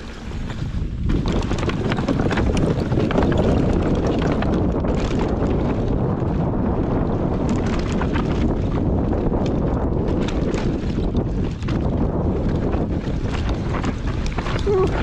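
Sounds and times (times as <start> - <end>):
bike rattling over dirt trail: 0.0 - 15.0
wind buffeting microphone: 0.0 - 15.0.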